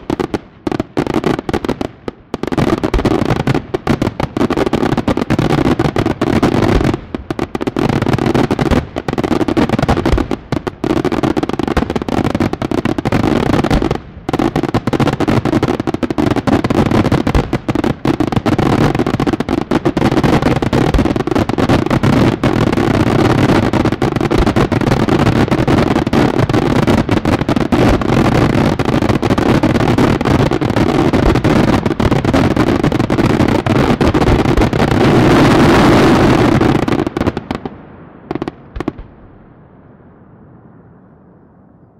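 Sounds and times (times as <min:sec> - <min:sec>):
fireworks bursting rapidly: 0:00.0 - 0:37.7.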